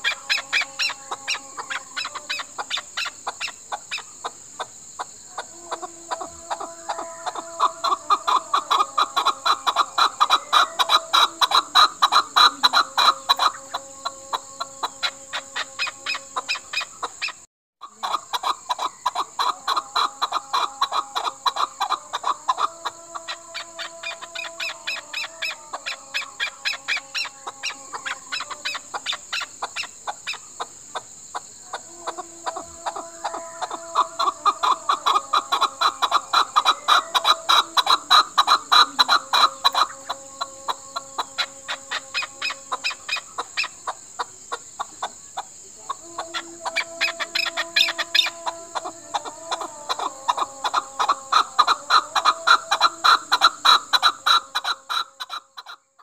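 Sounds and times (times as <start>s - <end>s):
partridge clucking calls: 0.0s - 56.0s.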